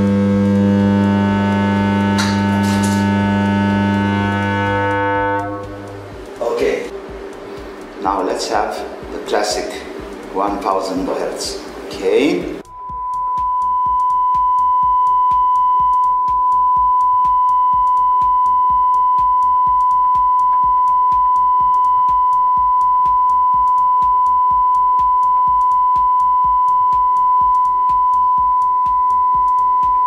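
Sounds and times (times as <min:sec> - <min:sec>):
sine test tone: 0:00.0 - 0:07.2, 0:12.6 - 0:30.0.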